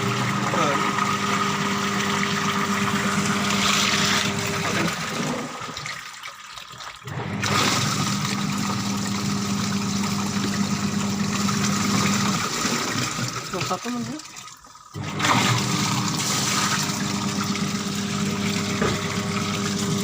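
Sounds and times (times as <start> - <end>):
washing machine motor humming: 0.0 - 6.2, 7.0 - 20.0
water churning: 0.0 - 20.0.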